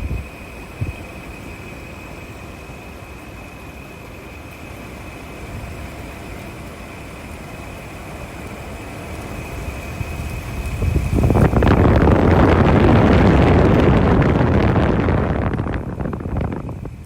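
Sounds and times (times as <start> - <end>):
portable air conditioner running: 0.0 - 17.0
thin high whine: 0.0 - 17.0.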